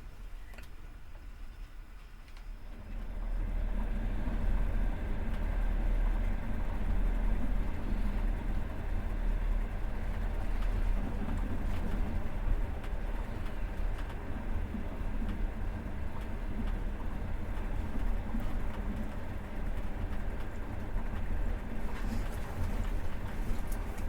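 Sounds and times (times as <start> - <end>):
train rumbling on rails: 0.0 - 24.0.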